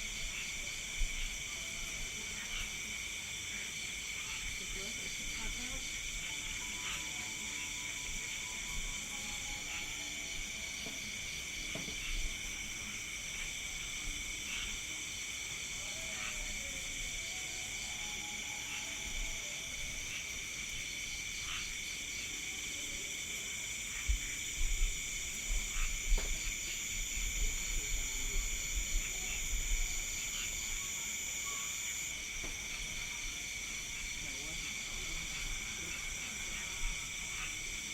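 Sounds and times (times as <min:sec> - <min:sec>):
crickets chirring: 0:00.0 - 0:37.9.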